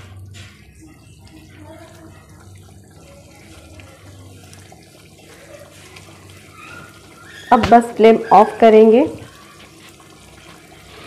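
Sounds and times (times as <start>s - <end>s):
curry bubbling and popping: 0.0s - 11.0s.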